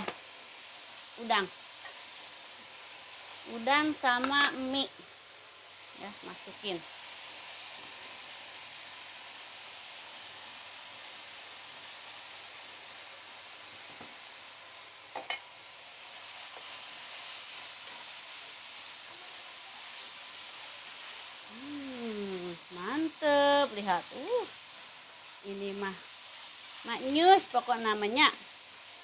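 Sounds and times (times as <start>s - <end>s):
food sizzling in a frying pan: 0.0s - 29.0s.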